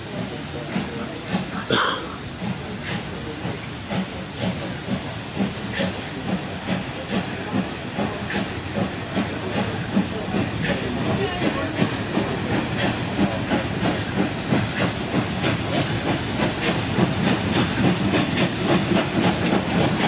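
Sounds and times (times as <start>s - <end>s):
sharp steam hissing spurts: 0.0s - 20.0s
steam locomotive chuffing: 0.0s - 20.0s.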